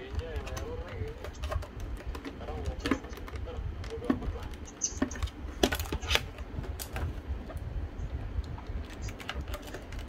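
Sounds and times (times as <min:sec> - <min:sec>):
plastic packaging clicking and crackling: 0:00.0 - 0:07.6, 0:08.4 - 0:10.0.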